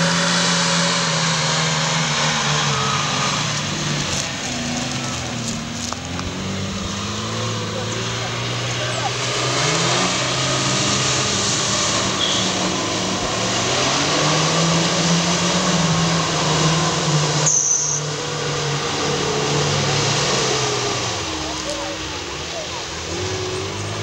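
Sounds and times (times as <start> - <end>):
car engine running hard: 0.0 - 24.0
water rushing: 0.0 - 24.0.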